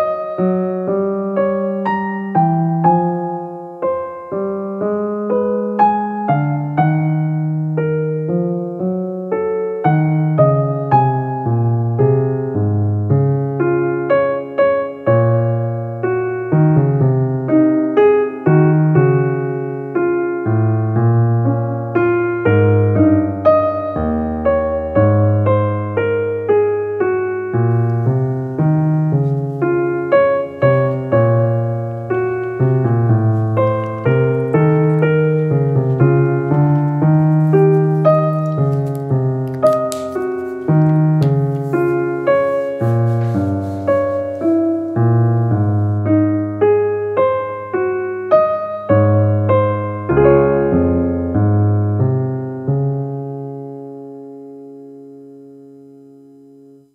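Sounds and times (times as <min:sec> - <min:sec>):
piano music: 0:00.0 - 0:56.9.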